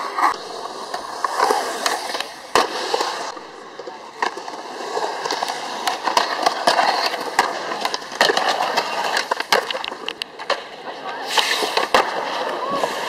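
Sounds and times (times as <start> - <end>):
skateboard clacks: 0.0 - 13.0
skateboard trucks grinding ledge: 0.0 - 13.0
skateboard wheels rolling on concrete: 0.0 - 13.0.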